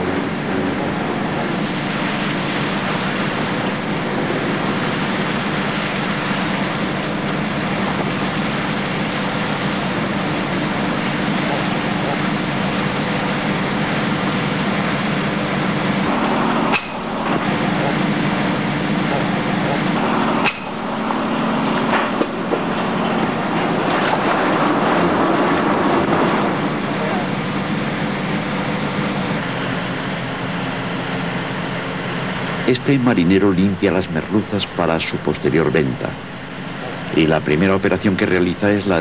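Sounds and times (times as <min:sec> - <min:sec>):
boat engine and machinery hum: 0:00.0 - 0:39.0.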